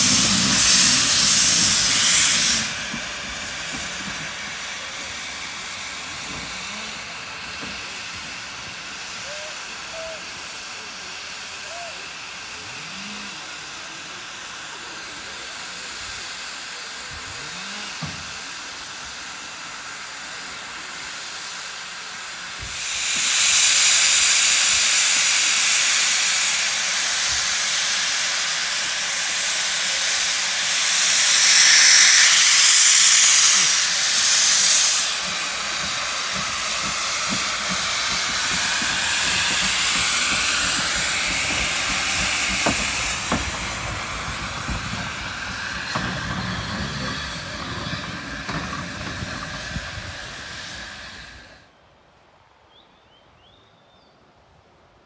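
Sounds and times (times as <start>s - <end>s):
steam blowing from drain cocks: 0.0s - 51.7s
steam locomotive hissing steam: 0.0s - 51.8s.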